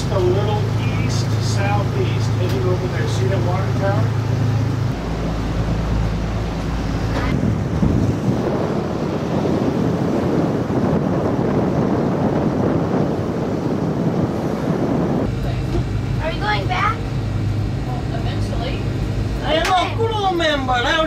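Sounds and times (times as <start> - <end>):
boat engines droning: 0.0 - 21.0
rush of wind and water: 0.0 - 21.0.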